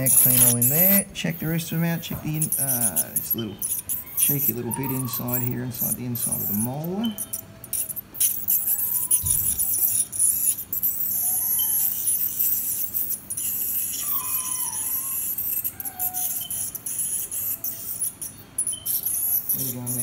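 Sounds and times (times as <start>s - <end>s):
faint short squeaks: 0.0s - 20.0s
ultrasonic dental scaler hissing: 0.0s - 20.0s.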